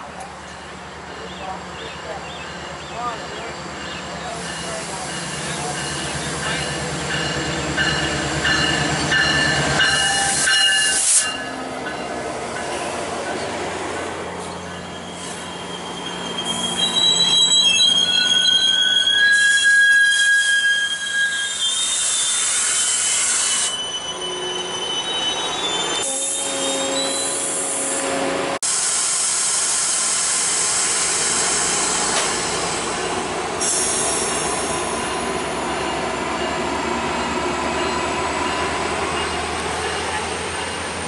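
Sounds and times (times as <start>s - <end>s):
train rumbling on rails: 0.0s - 41.0s
train wheels squealing: 0.5s - 12.0s, 12.6s - 28.0s, 28.9s - 41.0s.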